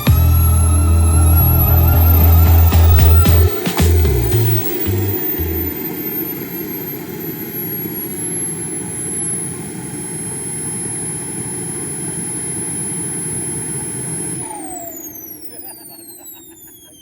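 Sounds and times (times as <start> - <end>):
model jet turbine roar and whine: 0.0 - 17.0.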